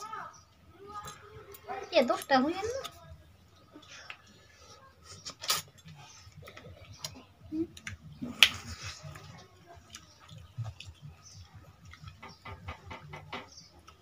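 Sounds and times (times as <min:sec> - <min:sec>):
people chewing and lip smacking: 0:00.5 - 0:14.0.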